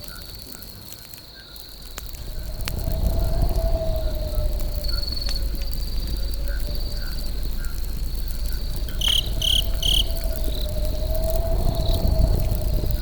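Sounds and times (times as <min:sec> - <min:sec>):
campfire crackling: 0:00.0 - 0:13.0
crickets trilling: 0:00.0 - 0:13.0
low rumble: 0:01.6 - 0:13.0
faint wavering tone: 0:01.8 - 0:13.0.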